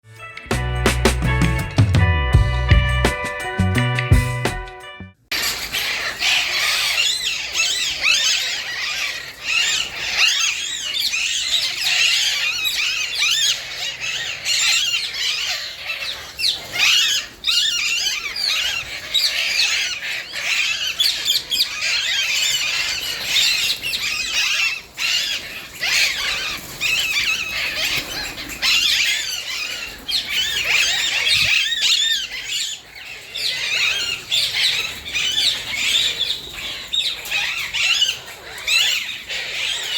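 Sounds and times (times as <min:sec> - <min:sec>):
birds chirping and screeching: 0:05.3 - 0:39.9.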